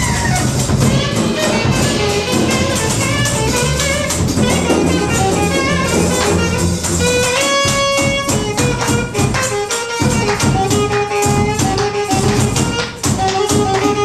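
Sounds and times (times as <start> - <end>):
trombone: 0.0 - 12.8
drum kit with busy cymbals: 0.0 - 14.0
reed instrument: 0.0 - 14.0
upright double bass: 0.0 - 14.0.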